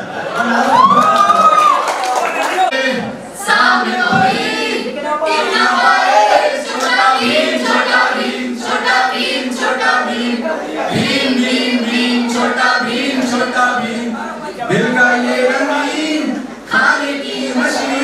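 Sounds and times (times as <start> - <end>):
voices singing together: 2.3 - 18.0.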